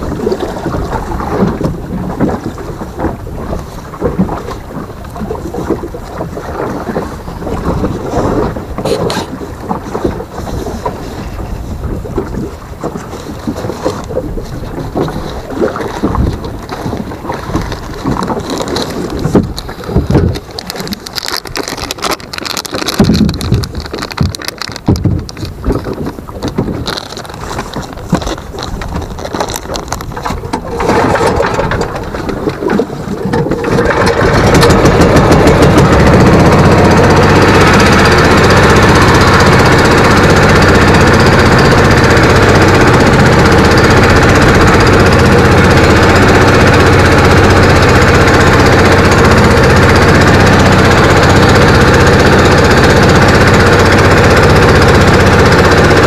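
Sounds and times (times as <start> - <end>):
wind noise: 0.0 - 56.0.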